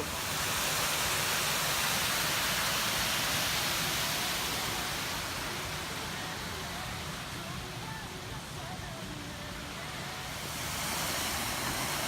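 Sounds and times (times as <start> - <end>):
surf washing against rocks: 0.0 - 12.0.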